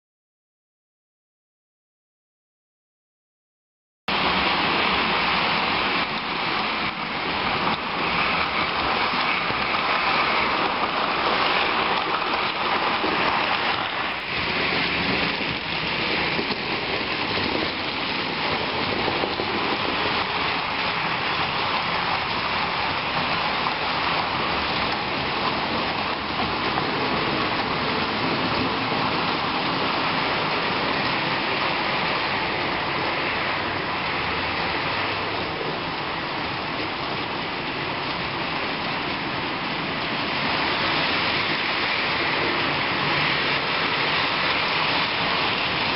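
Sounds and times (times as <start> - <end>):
model trains rattling on track: 4.1 - 45.9.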